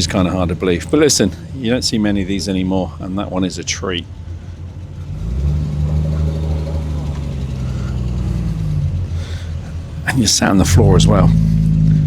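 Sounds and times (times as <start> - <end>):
sports car engine running: 0.0 - 12.0.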